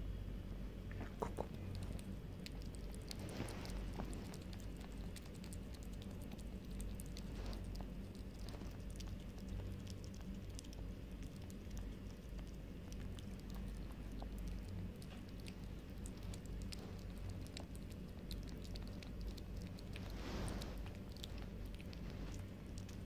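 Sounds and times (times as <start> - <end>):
low steady hum: 0.0 - 23.0
cat lapping: 0.9 - 23.0.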